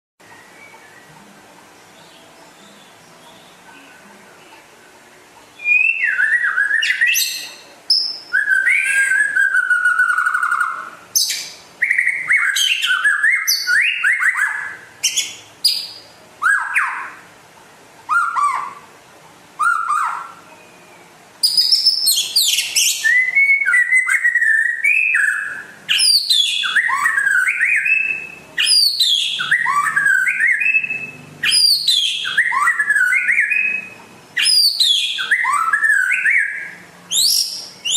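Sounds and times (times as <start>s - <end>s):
bird singing whistles: 0.2s - 1.3s, 5.6s - 17.2s, 18.1s - 18.9s, 19.6s - 37.9s.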